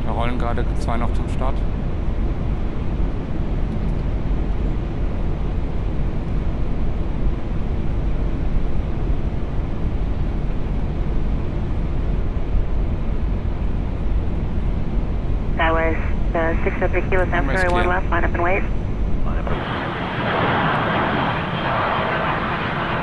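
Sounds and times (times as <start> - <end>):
airflow and engine noise in cockpit: 0.0 - 23.0.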